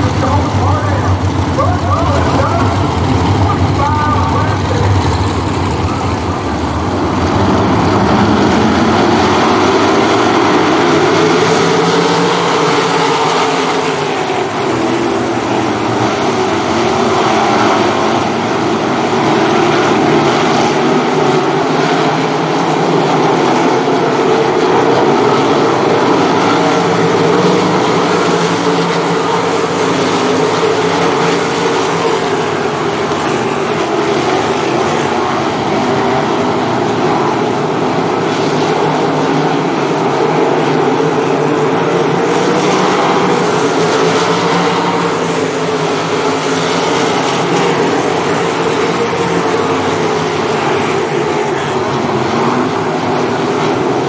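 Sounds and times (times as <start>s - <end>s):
racing car engines: 0.0s - 54.0s.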